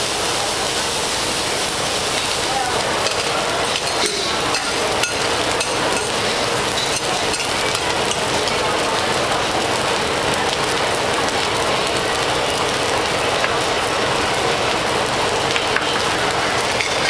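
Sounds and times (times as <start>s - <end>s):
rice sizzling on griddle: 0.0s - 17.0s.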